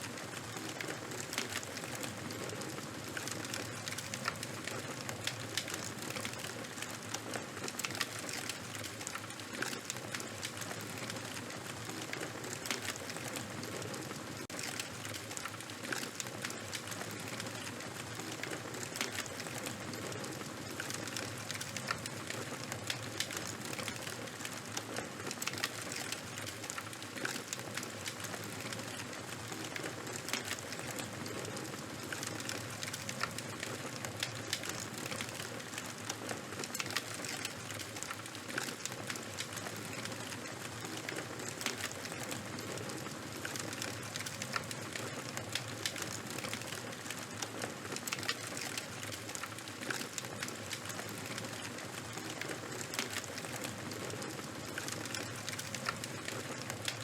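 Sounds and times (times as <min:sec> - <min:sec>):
fire crackling and hissing: 0:00.0 - 0:57.0.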